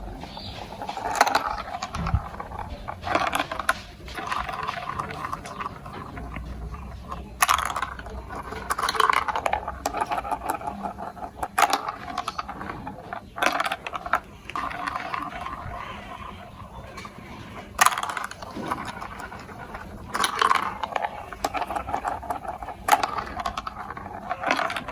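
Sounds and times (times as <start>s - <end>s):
marbles clicking on track: 0.0s - 24.9s
marbles rolling on plastic track: 0.0s - 24.9s.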